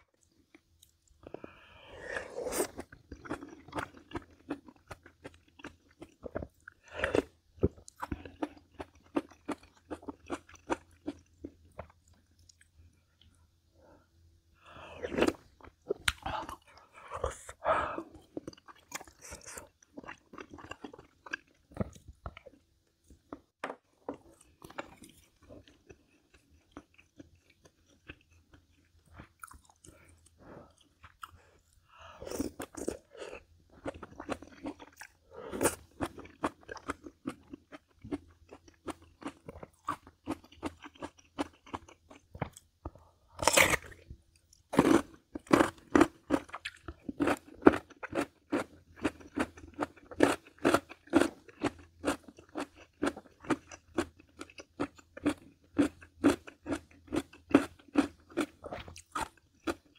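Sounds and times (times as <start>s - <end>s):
person chewing crisp food: 0.1s - 13.4s, 14.6s - 59.9s.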